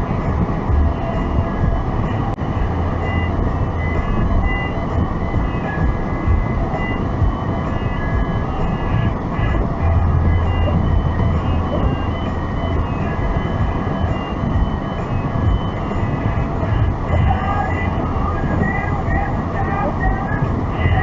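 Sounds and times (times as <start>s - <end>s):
car engine and tyres rumbling: 0.0s - 21.0s
faint high-pitched tones: 0.0s - 21.0s.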